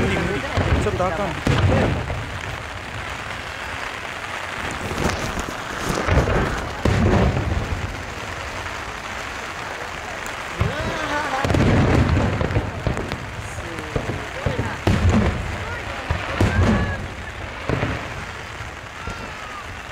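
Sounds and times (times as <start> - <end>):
fireworks booming: 0.0 - 19.9
heavy rain: 0.0 - 19.9
wind: 0.0 - 19.9.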